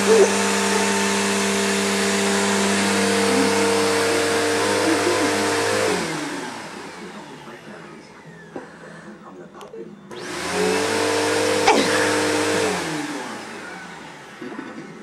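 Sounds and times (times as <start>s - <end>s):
vacuum cleaner motor running: 0.0s - 8.6s, 10.1s - 14.8s.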